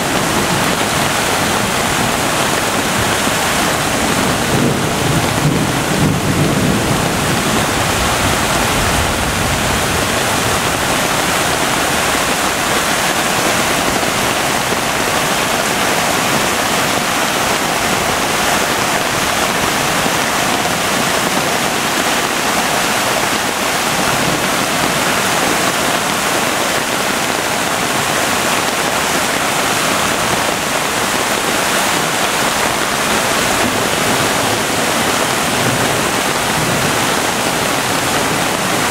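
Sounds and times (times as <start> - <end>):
creek rushing through rapids: 0.0 - 38.9.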